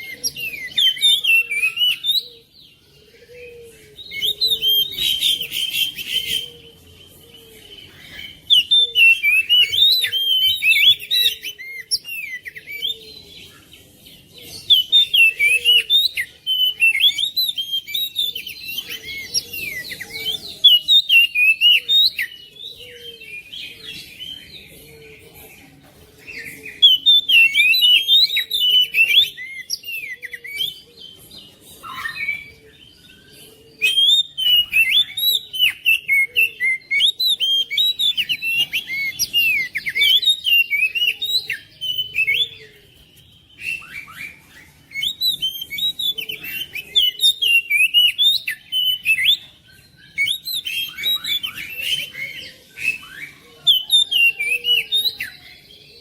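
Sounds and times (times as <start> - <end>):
magpie-robin singing: 0.0 - 25.2, 26.1 - 56.0.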